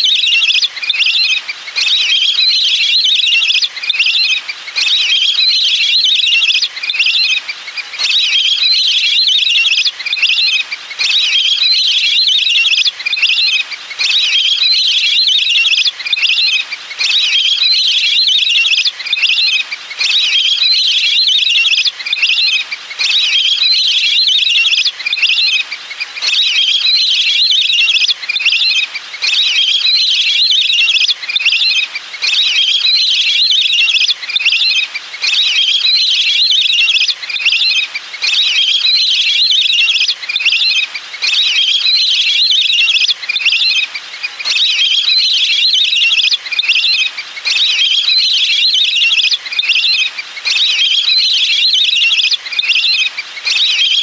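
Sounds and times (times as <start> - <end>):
ducks whistling calls: 0.0 - 54.0.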